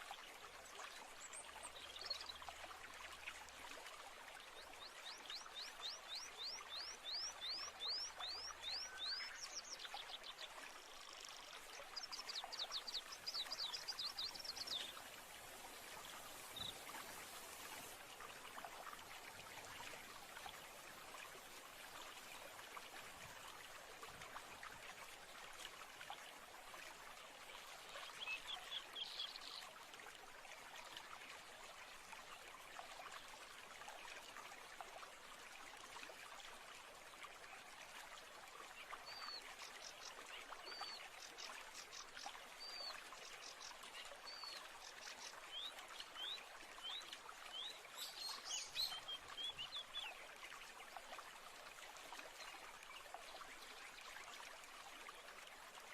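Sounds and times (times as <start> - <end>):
stream running water: 0.0 - 55.9.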